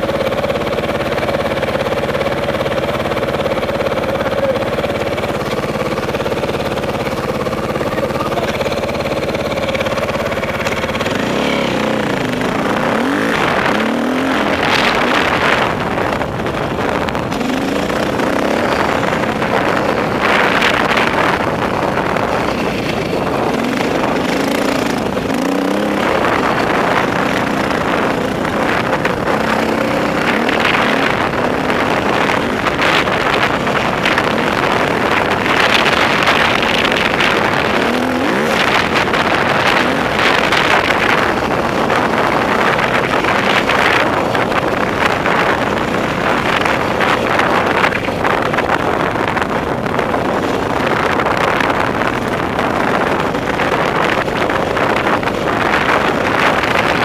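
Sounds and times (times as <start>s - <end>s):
dirt bike engine revving: 0.0s - 57.0s
steady rush of noise: 0.0s - 57.0s.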